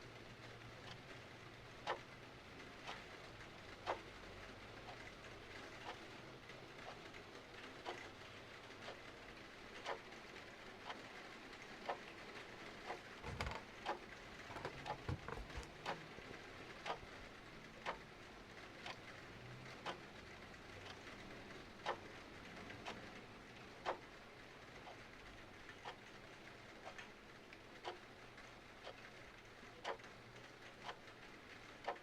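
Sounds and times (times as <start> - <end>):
clock ticking: 0.8 - 8.1, 9.7 - 10.2, 11.8 - 32.0.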